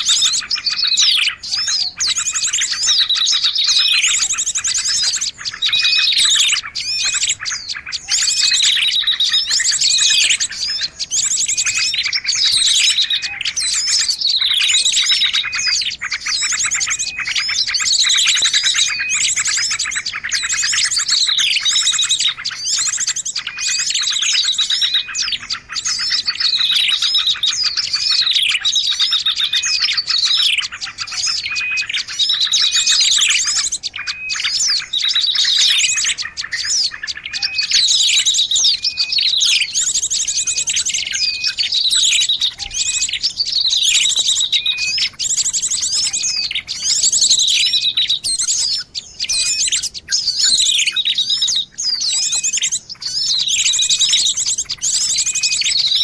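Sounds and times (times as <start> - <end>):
falling whistled bird notes: 0.0 - 56.0
small birds chirping and trilling: 0.0 - 56.0.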